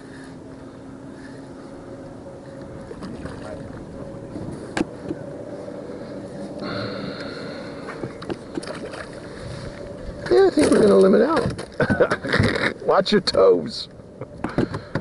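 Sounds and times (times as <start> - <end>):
boat motor humming: 0.0 - 15.0
higher whine: 0.0 - 15.0.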